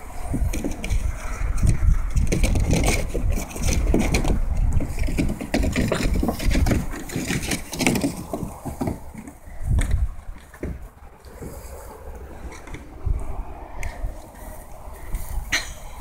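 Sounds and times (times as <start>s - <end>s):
paws scraping on plastic: 0.0s - 15.4s
wind rumble on microphone: 0.0s - 16.0s.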